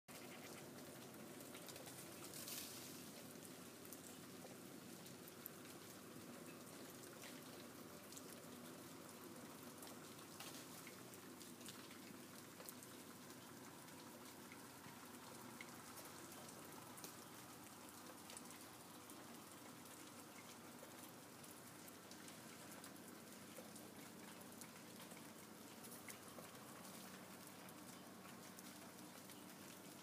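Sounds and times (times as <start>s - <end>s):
meltwater dripping and pattering: 0.1s - 30.0s
steady low hiss: 0.1s - 30.0s.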